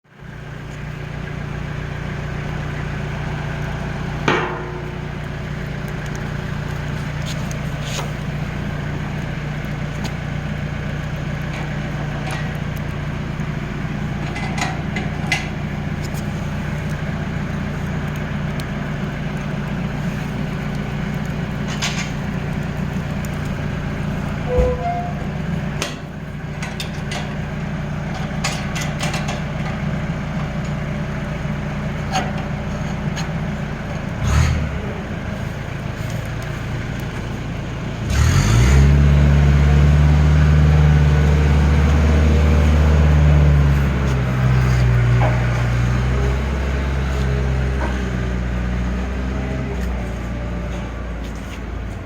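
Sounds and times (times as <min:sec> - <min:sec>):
wood stove low hum: 0:00.1 - 0:52.0.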